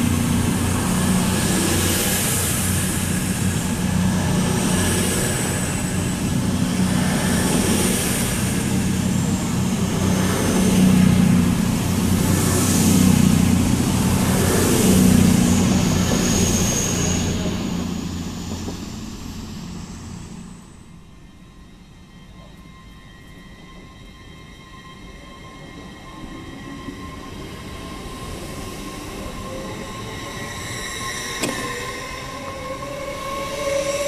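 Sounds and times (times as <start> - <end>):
rolling wheel and rail noise: 0.0 - 34.0.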